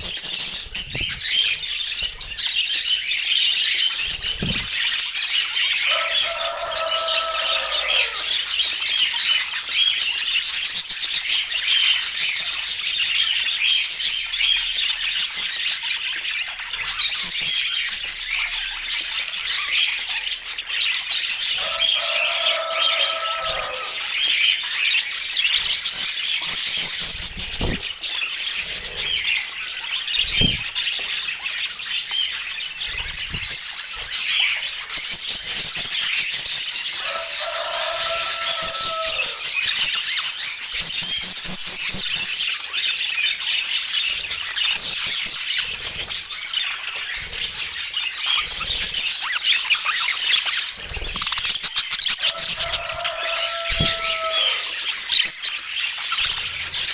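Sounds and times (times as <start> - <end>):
budgerigars chattering and squawking: 0.0 - 56.9.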